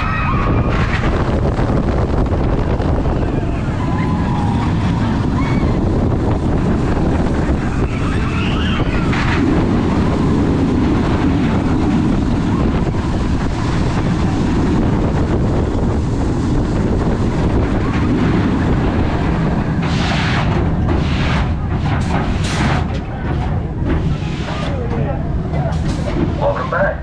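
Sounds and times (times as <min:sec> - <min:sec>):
roller coaster train rumbling on track: 0:00.0 - 0:27.0
wind rushing over microphone: 0:00.0 - 0:27.0.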